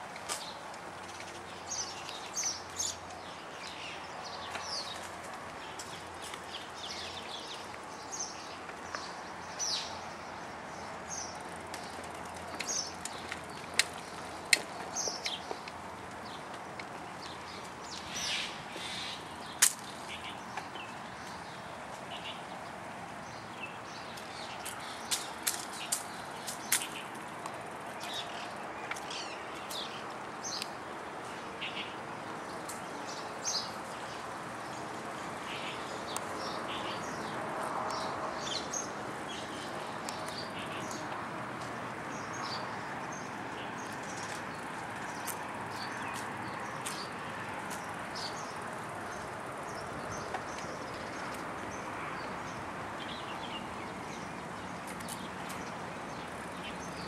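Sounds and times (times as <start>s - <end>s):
steady background noise: 0.0s - 57.0s
small birds chirping: 0.3s - 57.0s.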